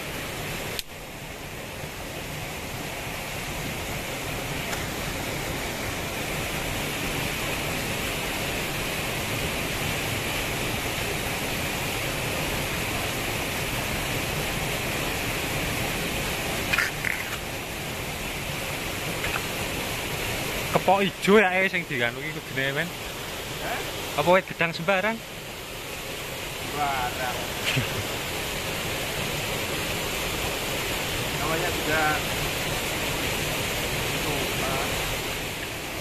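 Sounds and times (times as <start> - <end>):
rushing hiss: 0.0 - 36.0.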